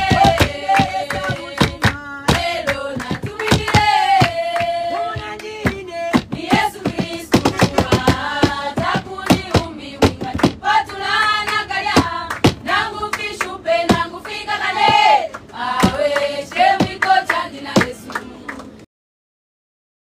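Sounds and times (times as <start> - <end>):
hands clapping: 0.0 - 18.8
women singing in unison: 0.0 - 18.8.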